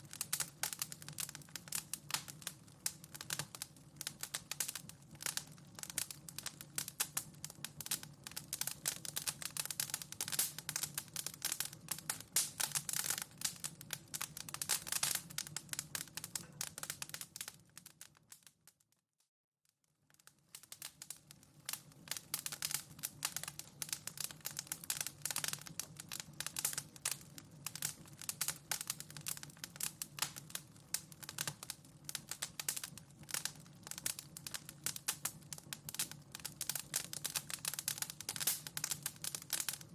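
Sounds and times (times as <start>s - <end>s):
wood fire crackling: 0.0s - 18.9s, 19.9s - 39.9s.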